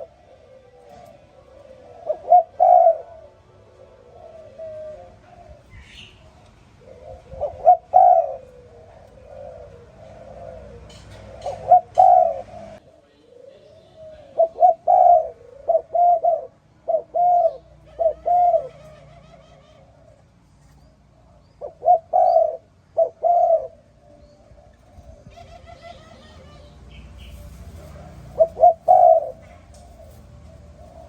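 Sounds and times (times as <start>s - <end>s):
dove cooing loudly: 0.0s - 20.3s, 21.1s - 31.0s
faint dove cooing: 0.0s - 31.0s
small birds chirping: 4.3s - 16.2s, 16.9s - 31.0s.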